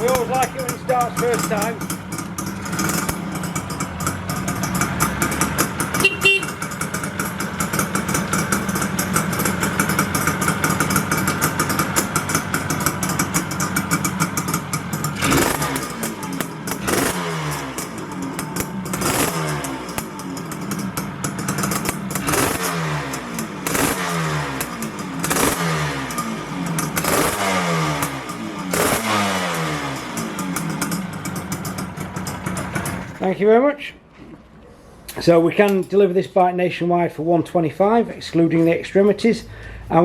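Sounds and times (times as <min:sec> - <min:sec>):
two-stroke motorcycle engine revving: 0:00.0 - 0:33.2.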